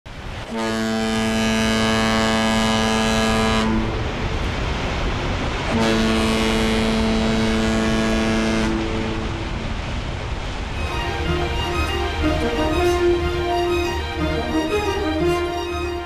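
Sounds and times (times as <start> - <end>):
steady rushing noise: 0.1 - 16.0
ship horn long blasts: 0.4 - 4.3, 5.6 - 10.0, 10.8 - 16.0.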